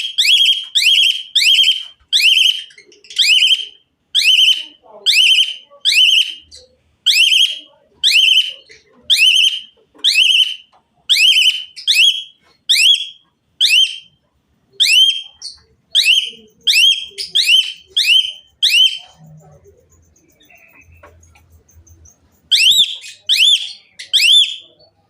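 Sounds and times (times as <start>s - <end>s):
starling whistled song: 0.0s - 14.2s, 14.8s - 19.3s, 20.2s - 25.0s.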